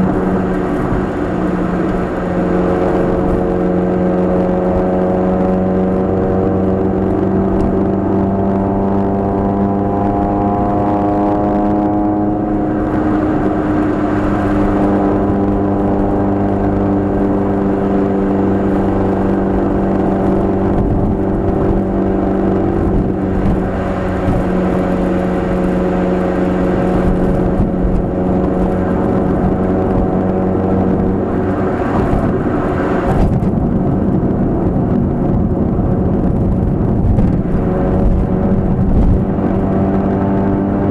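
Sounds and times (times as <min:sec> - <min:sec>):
car engine droning in cabin: 0:00.0 - 0:40.9
road noise: 0:00.0 - 0:40.9.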